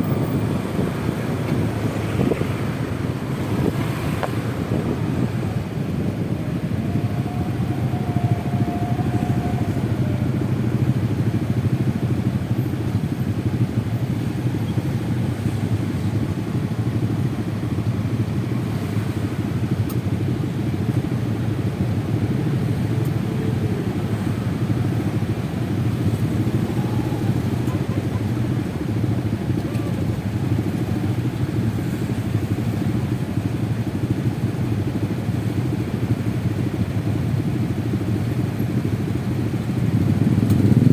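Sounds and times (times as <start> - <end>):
road and wind noise: 0.0 - 40.9
scooter engine running: 0.0 - 40.9.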